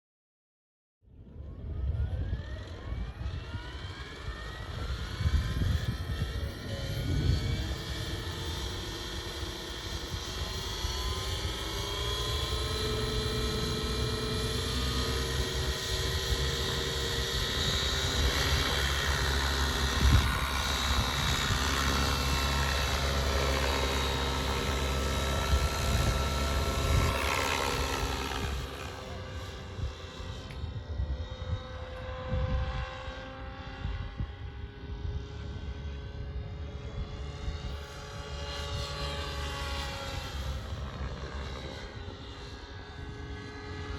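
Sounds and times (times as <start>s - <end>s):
model helicopter rotor whine: 1.1s - 43.9s.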